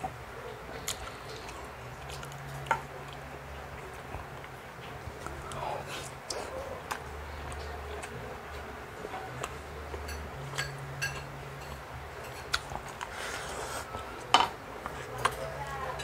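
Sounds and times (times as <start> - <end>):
faint low hum: 0.0 - 16.0
chewing crunches: 0.7 - 15.4.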